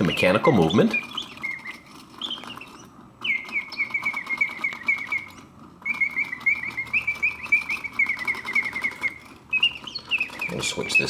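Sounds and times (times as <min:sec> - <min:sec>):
clockwork clicking: 0:00.0 - 0:11.0
mechanical bird whistle trilling: 0:00.0 - 0:11.0.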